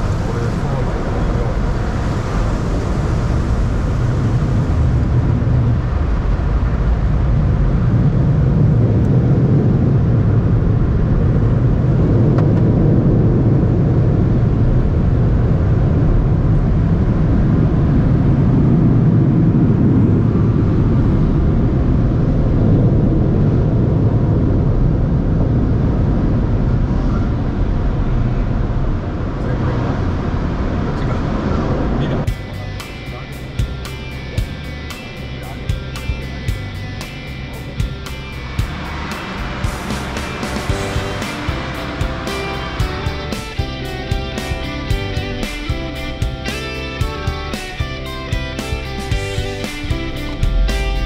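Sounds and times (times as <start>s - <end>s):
car wash water jets and machinery: 0.0s - 51.0s.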